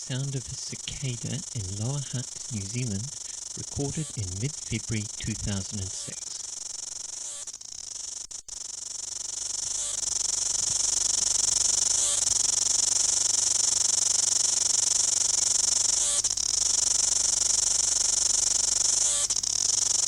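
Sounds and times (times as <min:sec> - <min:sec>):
cicada buzzing: 0:00.0 - 0:20.0.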